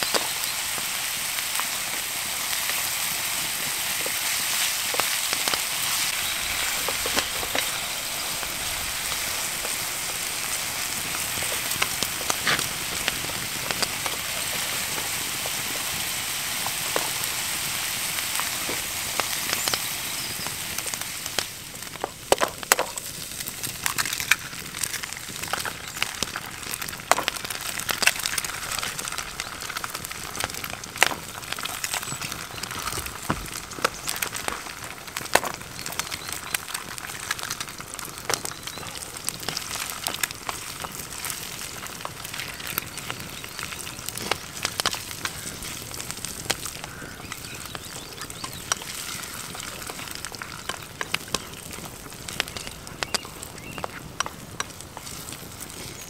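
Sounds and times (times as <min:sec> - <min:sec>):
bacon and eggs sizzling in a pan: 0:00.0 - 0:56.0
campfire crackling: 0:00.0 - 0:56.0.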